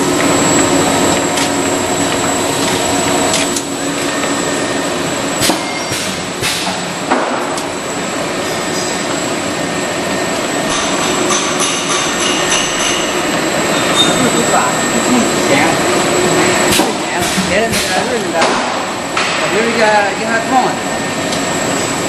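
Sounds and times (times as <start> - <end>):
machinery clatter and hum: 0.0 - 22.0.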